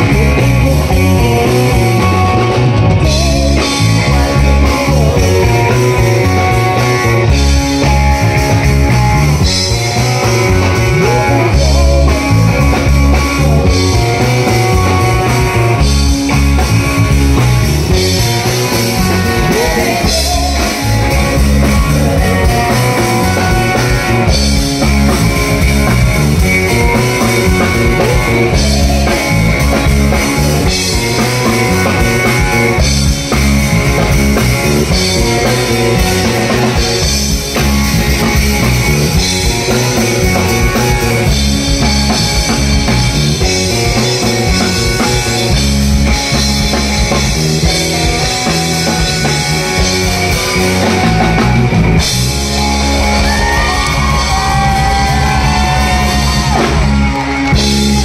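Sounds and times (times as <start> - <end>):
bass guitar: 0.0 - 58.0
drum kit: 0.0 - 58.0
electric guitars: 0.0 - 58.0.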